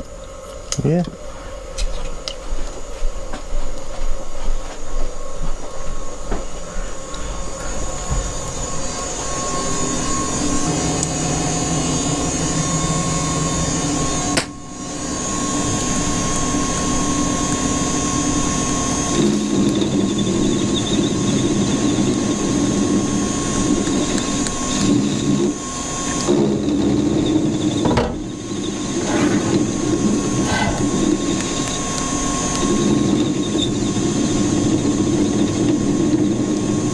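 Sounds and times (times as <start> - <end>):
metal lathe humming and whining: 7.0 - 36.9.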